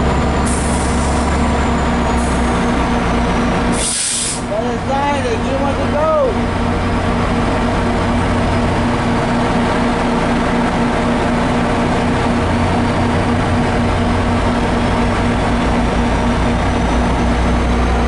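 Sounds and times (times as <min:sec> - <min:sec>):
locomotive diesel engine humming: 0:00.0 - 0:18.0.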